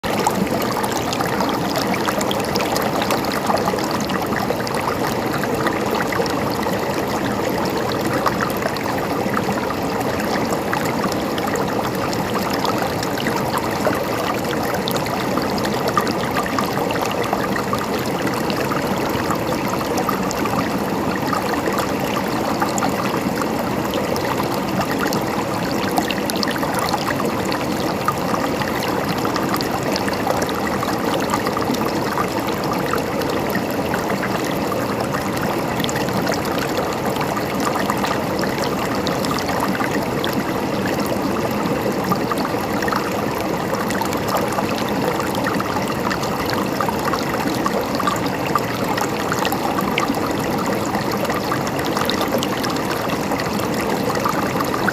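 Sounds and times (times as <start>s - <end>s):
stream water trickling: 0.0s - 54.9s.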